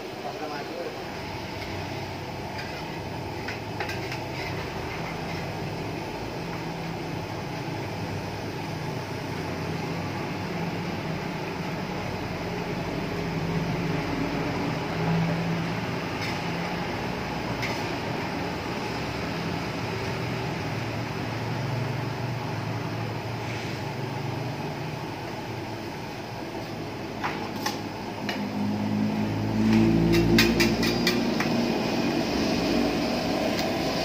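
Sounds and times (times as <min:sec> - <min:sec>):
banana slices deep-frying in oil: 0:00.9 - 0:34.0.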